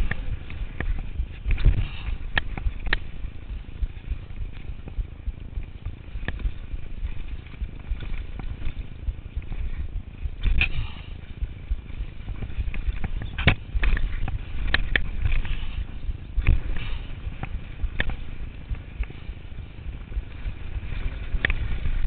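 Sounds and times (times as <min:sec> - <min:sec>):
bike clanking and rattling: 0:00.0 - 0:22.0
tyres on dirt: 0:00.0 - 0:22.0
wind on microphone: 0:00.0 - 0:22.0.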